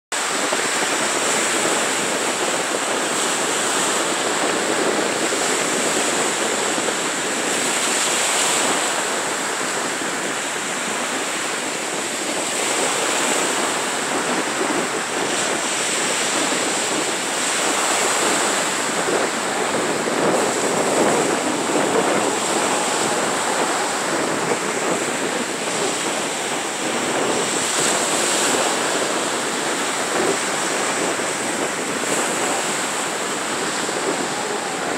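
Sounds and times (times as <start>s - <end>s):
small waves breaking on beach: 0.2s - 34.9s.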